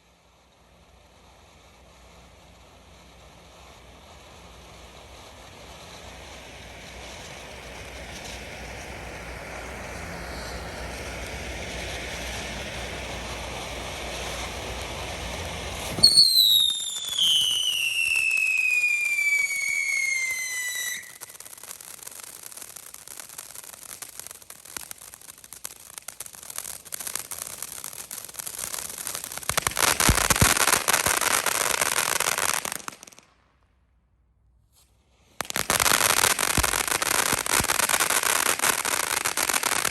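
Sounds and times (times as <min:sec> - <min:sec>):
firework hissing sparks: 0:00.0 - 0:33.4, 0:34.7 - 0:39.9
firework crackling: 0:00.0 - 0:39.9
firework screaming whistle: 0:04.6 - 0:33.3, 0:35.4 - 0:39.9.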